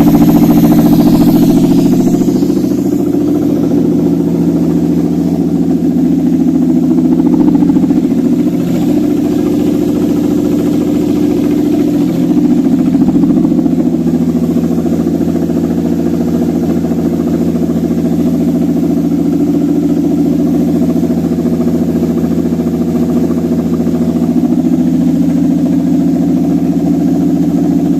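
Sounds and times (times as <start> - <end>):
engine idling: 0.0 - 27.9.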